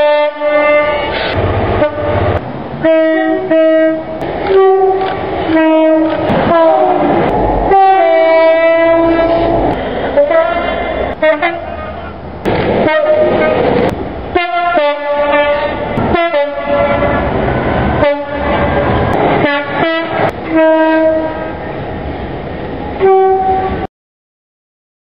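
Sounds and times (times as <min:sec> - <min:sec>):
diesel locomotive horn blasts: 0:00.0 - 0:12.2, 0:12.8 - 0:21.6, 0:23.0 - 0:23.9
rumble of approaching trains: 0:00.0 - 0:23.9.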